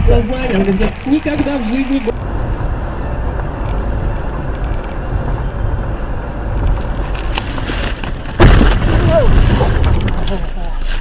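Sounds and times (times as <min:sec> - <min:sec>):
vehicle rumble and road noise: 0:00.0 - 0:11.0.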